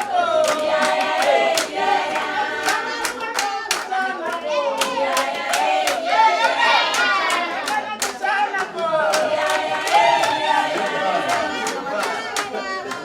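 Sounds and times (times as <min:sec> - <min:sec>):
group of voices singing: 0:00.0 - 0:13.0
hand clapping: 0:00.0 - 0:13.0.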